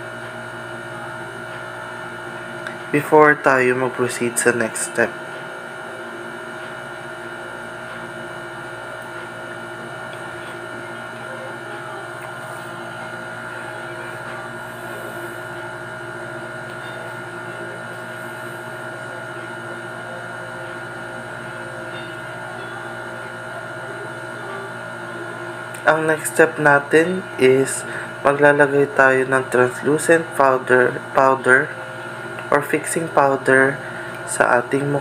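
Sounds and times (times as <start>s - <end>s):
steady background hum: 0.0s - 35.0s.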